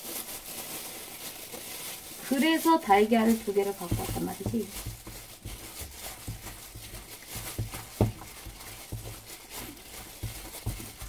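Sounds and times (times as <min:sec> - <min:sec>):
wet batter squishing: 0:00.2 - 0:11.0.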